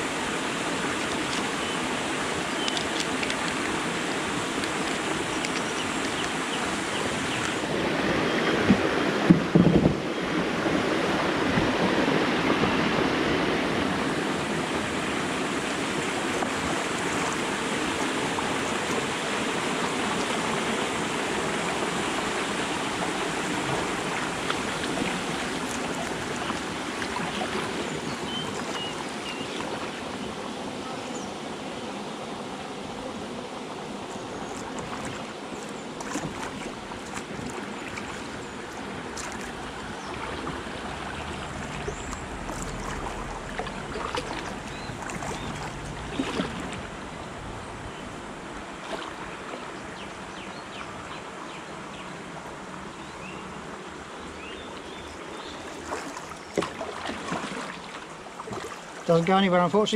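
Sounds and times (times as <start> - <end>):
water rushing over weir: 0.0 - 59.9.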